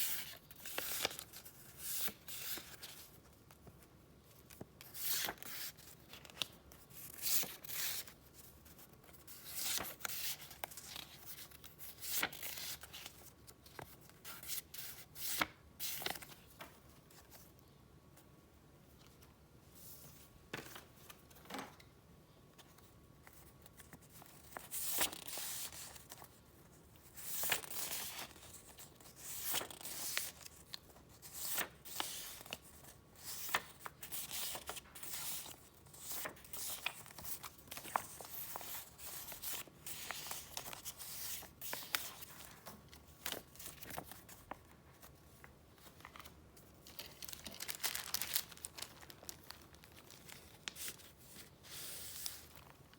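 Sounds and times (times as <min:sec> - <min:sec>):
paper crinkling and rustling: 0:00.2 - 0:17.5, 0:27.0 - 0:52.9.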